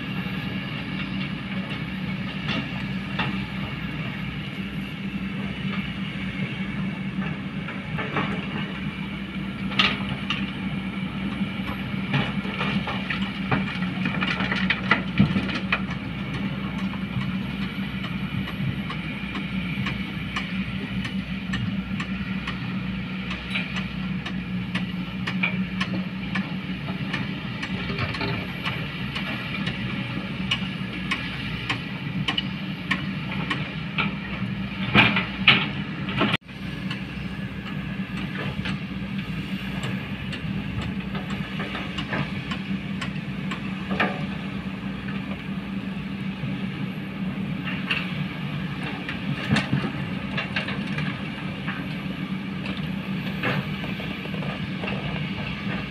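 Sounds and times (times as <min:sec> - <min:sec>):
excavators running: 0:00.0 - 0:55.9.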